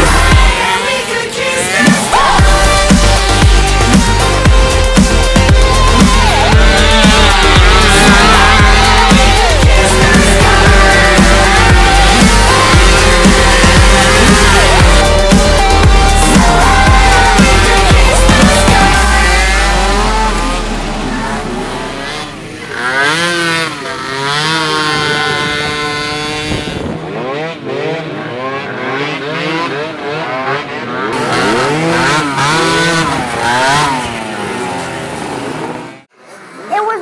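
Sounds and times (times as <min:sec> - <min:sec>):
racing atv engines revving: 0:00.0 - 0:37.0.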